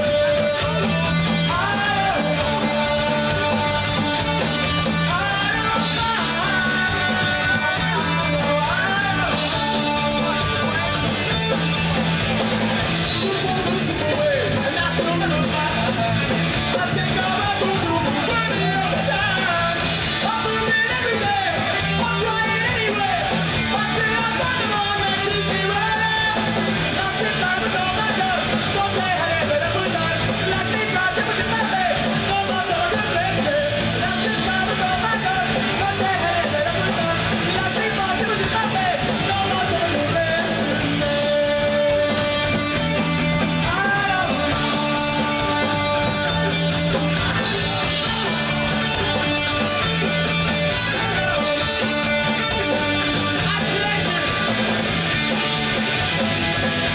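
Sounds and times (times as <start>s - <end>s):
electric guitars: 0.0s - 56.9s
man singing and shouting: 0.0s - 56.9s
punk rock band playing: 0.0s - 56.9s.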